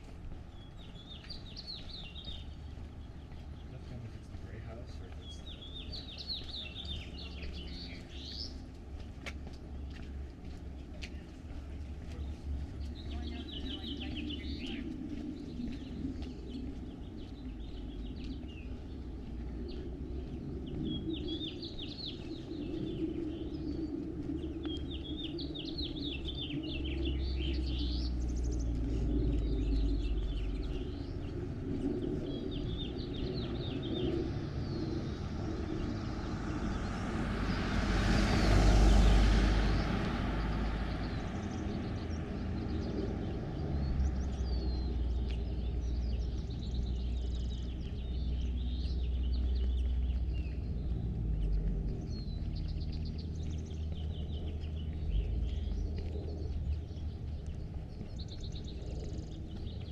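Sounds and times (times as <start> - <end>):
low outdoor rumble: 0.0 - 59.9
songbirds chirping: 0.0 - 59.9
car passing: 11.6 - 59.9.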